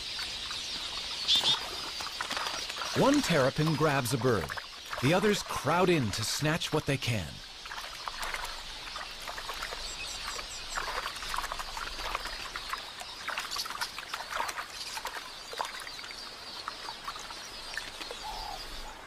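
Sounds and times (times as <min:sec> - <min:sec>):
birds chirping: 0:00.0 - 0:19.0
water splashing: 0:00.0 - 0:19.0.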